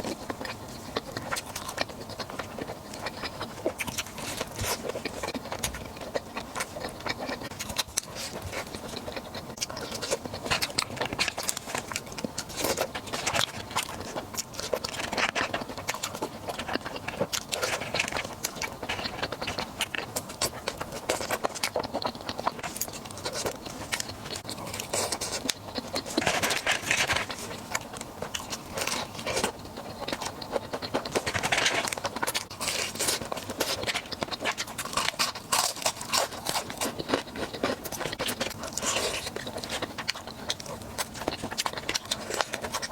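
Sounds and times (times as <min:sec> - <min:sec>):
crunching and chewing food: 0:00.0 - 0:42.9.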